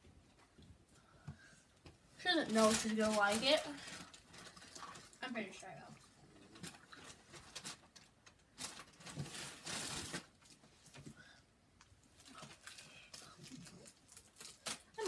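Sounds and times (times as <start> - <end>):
rustling of things handled: 0.1 - 15.0.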